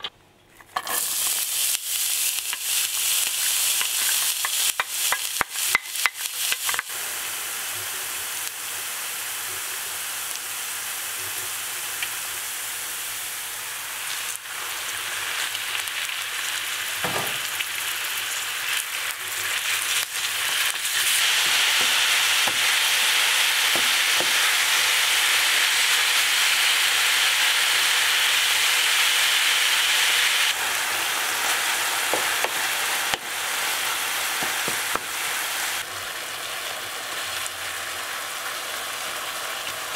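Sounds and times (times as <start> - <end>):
food sizzling in a frying pan: 0.7 - 39.9.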